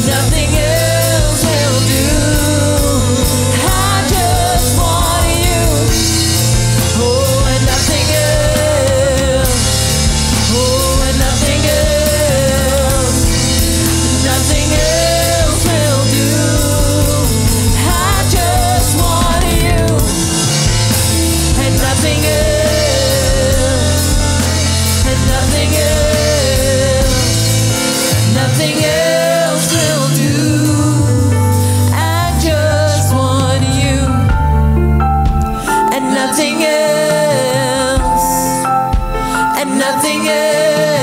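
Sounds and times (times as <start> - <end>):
person singing: 0.0 - 34.6, 35.4 - 41.0
worship band with drums and bass: 0.0 - 41.0.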